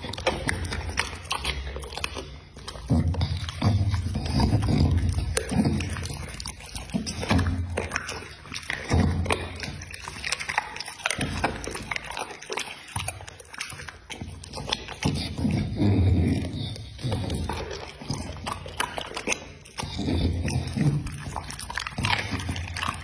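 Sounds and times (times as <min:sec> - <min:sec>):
dog chewing wetly: 0:00.0 - 0:23.0
teeth clicking on bone: 0:00.0 - 0:23.0.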